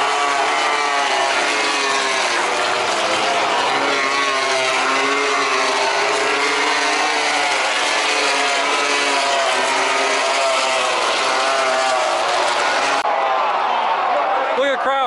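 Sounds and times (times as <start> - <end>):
racing motorcycles passing: 0.0 - 13.1.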